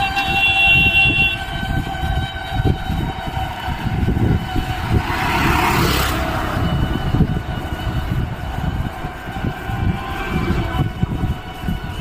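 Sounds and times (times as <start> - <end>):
high steady tone: 0.0 - 12.0
train rumbling on track: 0.0 - 12.0.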